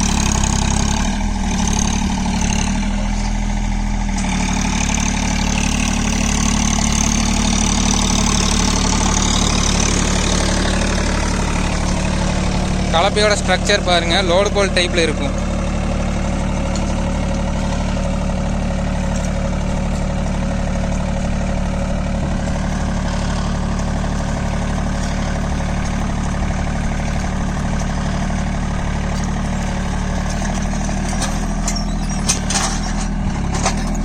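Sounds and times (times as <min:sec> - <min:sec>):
diesel tractor engine running: 0:00.0 - 0:34.0.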